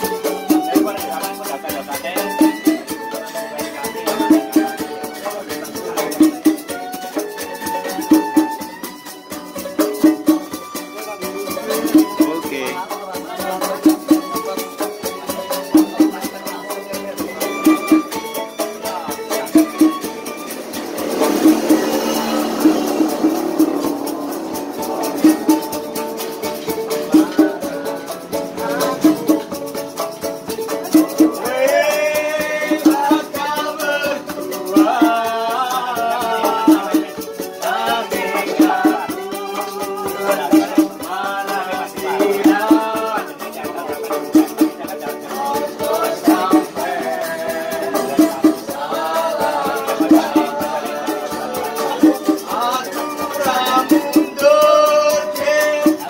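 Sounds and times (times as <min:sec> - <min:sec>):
person singing: 0:00.0 - 0:56.0
steady percussion beat: 0:00.0 - 0:56.0
strummed strings: 0:00.0 - 0:56.0.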